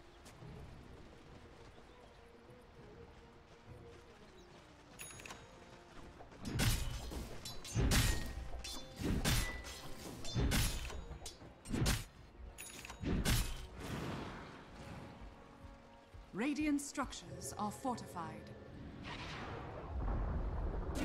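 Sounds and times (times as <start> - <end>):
faint game music: 0.0 - 21.0.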